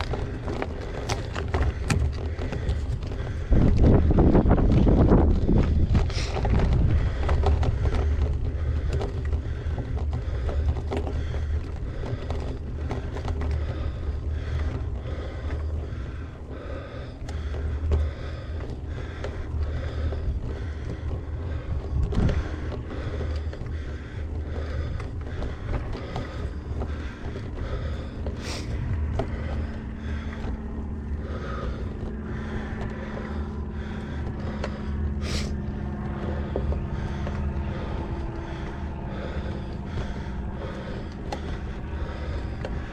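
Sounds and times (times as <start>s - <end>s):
bike rattling over rough ground: 0.0s - 42.9s
wind buffeting microphone: 0.0s - 42.9s.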